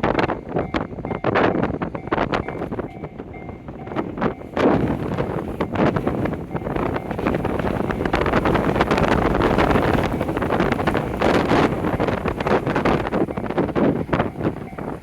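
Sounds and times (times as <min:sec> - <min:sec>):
train passing with clattering: 0:00.0 - 0:15.0
wind buffeting microphone: 0:00.0 - 0:15.0.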